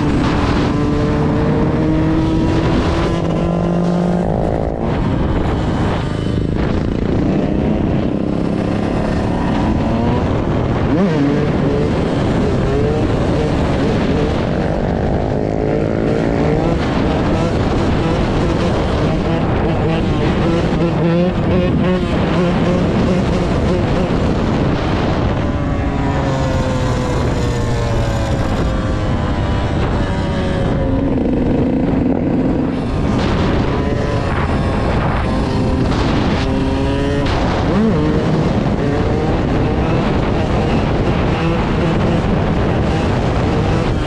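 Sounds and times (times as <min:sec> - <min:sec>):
dirt bike engine revving: 0:00.0 - 0:27.2, 0:27.8 - 0:44.0.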